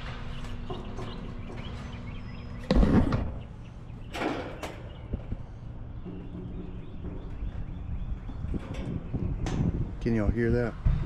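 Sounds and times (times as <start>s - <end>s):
heavy metallic thump: 0.0s - 10.2s.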